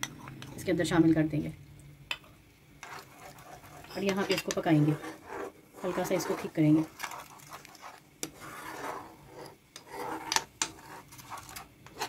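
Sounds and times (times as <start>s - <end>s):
spoon stirring and scraping pan: 2.2s - 12.0s.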